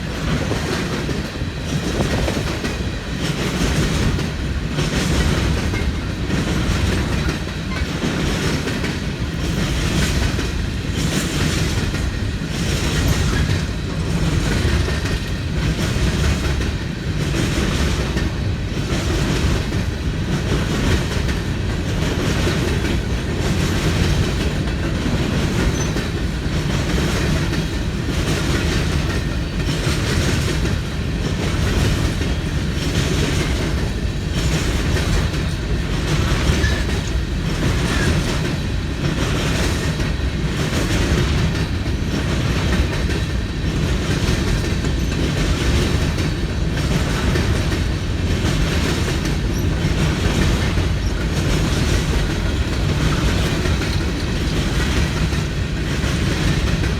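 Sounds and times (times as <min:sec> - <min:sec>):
train wheels rumbling on rail: 0:00.0 - 0:56.9
wheels clacking over rail joints: 0:00.0 - 0:56.9.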